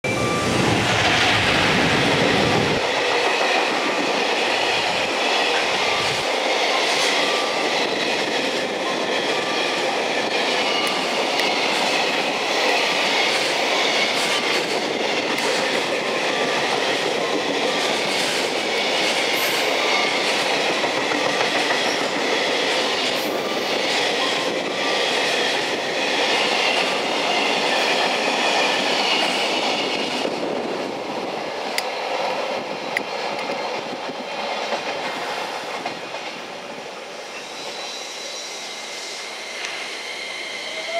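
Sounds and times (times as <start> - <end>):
freight train wheels clacking: 0.0 - 40.9.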